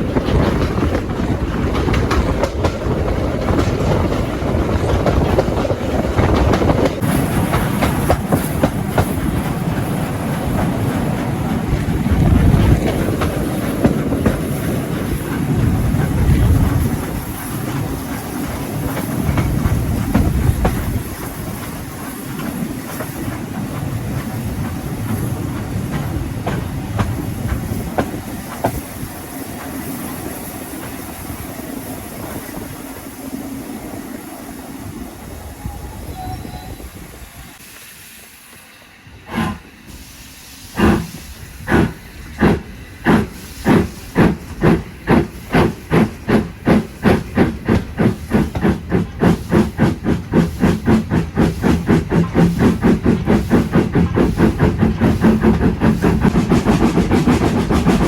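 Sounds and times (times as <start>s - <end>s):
steam locomotive exhaust chuffs: 0.0s - 58.0s
steam locomotive hiss and rumble: 0.0s - 58.0s.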